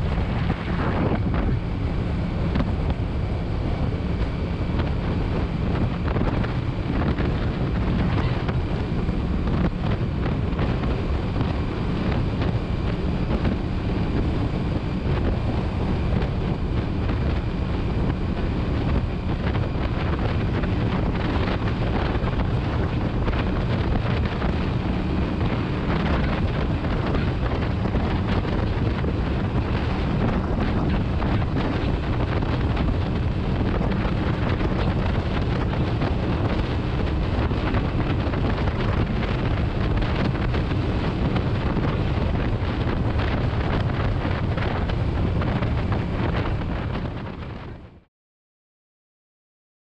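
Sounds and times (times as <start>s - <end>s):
wind buffeting microphone: 0.0s - 48.1s.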